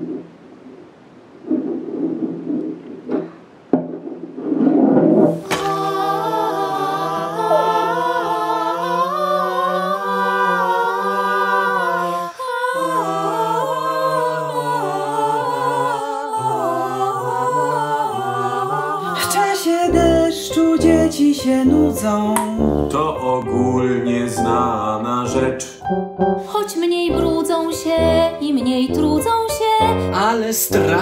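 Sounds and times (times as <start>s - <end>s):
voices singing a cappella harmony: 5.4s - 31.0s.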